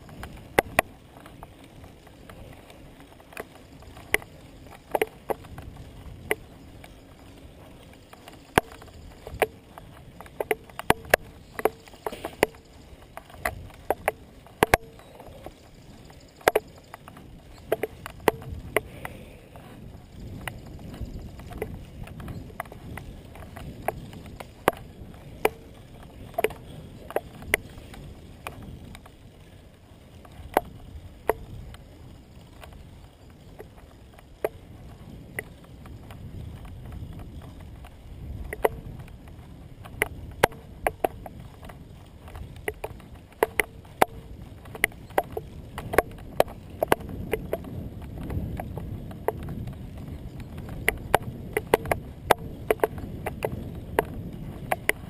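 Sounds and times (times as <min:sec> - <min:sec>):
wind and tyres on asphalt: 0:00.0 - 0:55.0
bike mount clicks and knocks: 0:00.1 - 0:01.4, 0:02.1 - 0:06.9, 0:07.9 - 0:15.5, 0:16.4 - 0:19.2, 0:20.3 - 0:29.1, 0:30.2 - 0:31.8, 0:35.3 - 0:39.0, 0:39.8 - 0:55.0.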